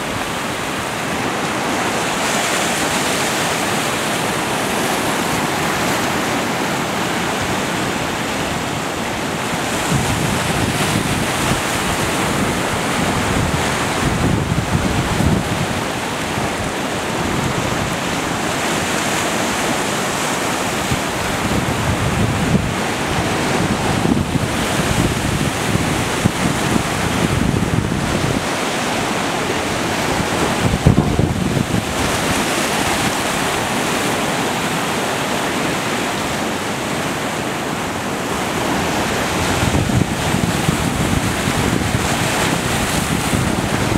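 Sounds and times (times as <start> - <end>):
wind buffeting microphone: 0.0 - 35.8, 36.4 - 43.9
surf breaking on beach: 0.0 - 43.9.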